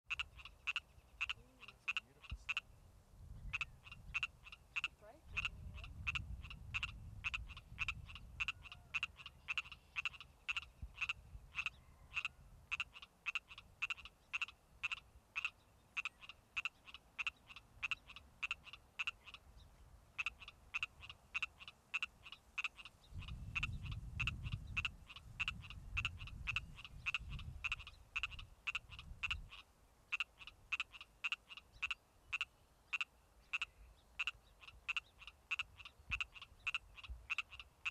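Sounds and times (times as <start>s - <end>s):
frog croaking: 0.1s - 2.8s, 3.5s - 19.5s, 20.1s - 37.9s.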